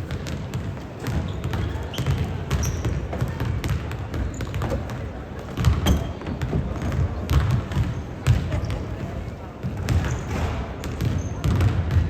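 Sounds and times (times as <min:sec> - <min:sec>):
basketball bouncing on gym floor: 0:00.0 - 0:12.0.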